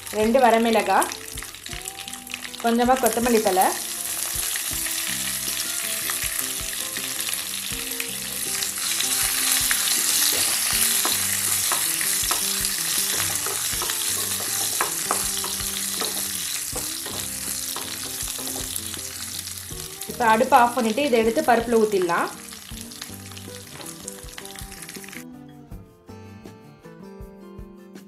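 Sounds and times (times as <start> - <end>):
spices sizzling in hot oil: 0.0 - 25.2.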